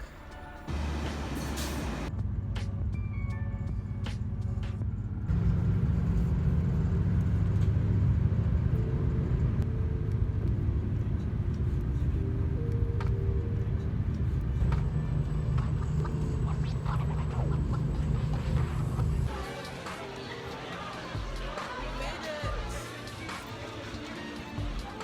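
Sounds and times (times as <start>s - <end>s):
road vehicle rumbling: 0.7s - 24.9s.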